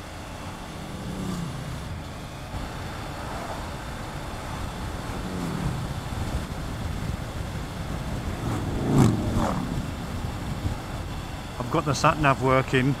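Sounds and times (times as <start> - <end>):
wind rush: 0.0 - 12.0
motorcycle engine running: 0.0 - 13.0
road noise: 0.0 - 13.0.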